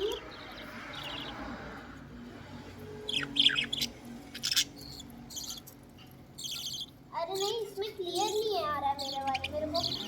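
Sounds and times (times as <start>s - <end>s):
birds chirping and squawking: 0.0s - 10.0s.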